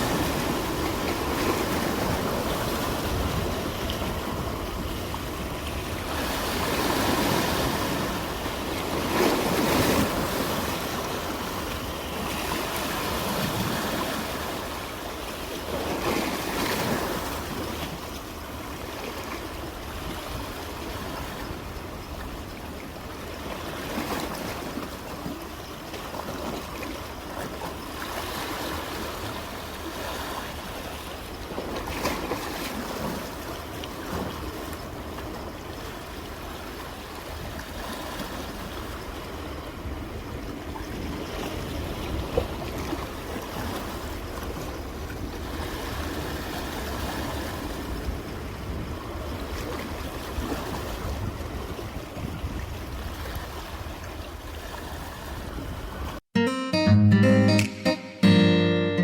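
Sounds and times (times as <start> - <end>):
ocean waves washing ashore: 0.0 - 56.2.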